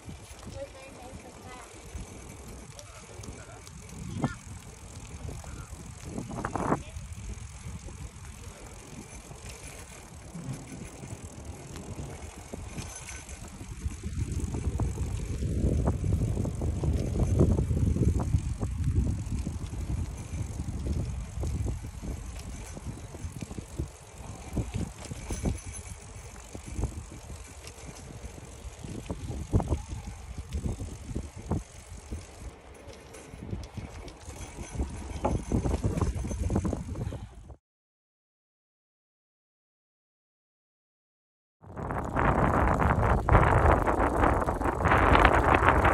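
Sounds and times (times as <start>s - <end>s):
bicycle knocking and rattling: 0.0s - 37.6s, 41.6s - 45.9s
wind rushing over microphone: 1.3s - 32.6s, 33.3s - 37.6s, 41.6s - 45.9s.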